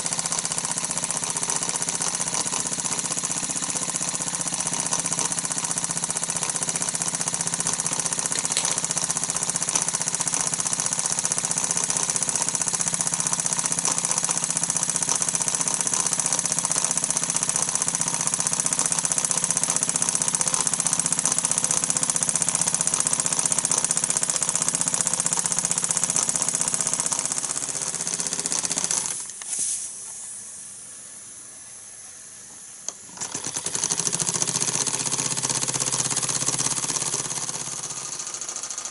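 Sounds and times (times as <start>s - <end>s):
toy steam engine running: 0.0s - 30.3s, 32.9s - 38.9s.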